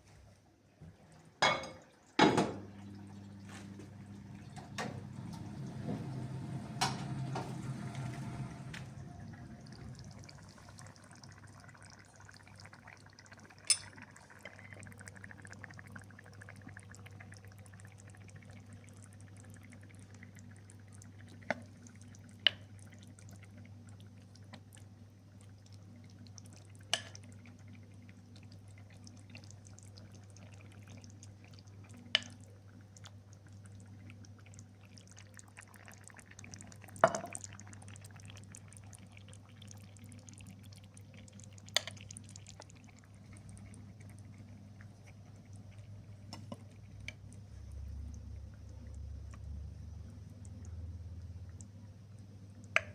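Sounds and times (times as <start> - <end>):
liquid pouring: 2.6 - 51.6.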